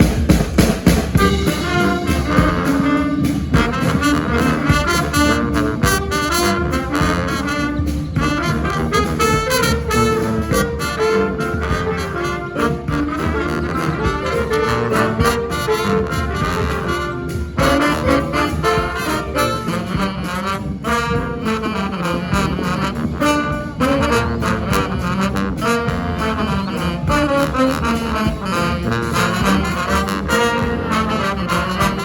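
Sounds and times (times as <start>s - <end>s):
brass band horns playing: 0.0s - 32.0s
drums: 0.0s - 32.0s
low bass line: 0.0s - 32.0s.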